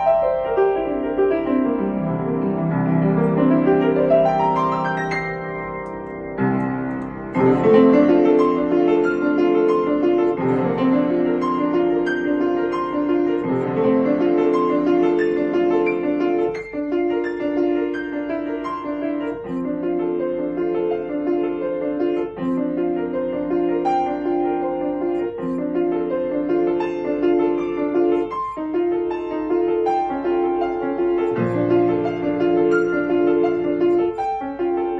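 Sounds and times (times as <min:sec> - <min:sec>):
solo piano piece: 0:00.0 - 0:34.9.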